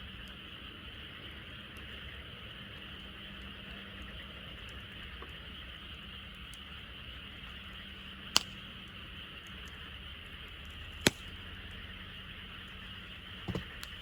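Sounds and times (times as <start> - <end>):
fire popping: 0.0 - 14.0
frogs chorus: 0.0 - 14.0
wood fire crackling: 0.0 - 14.0.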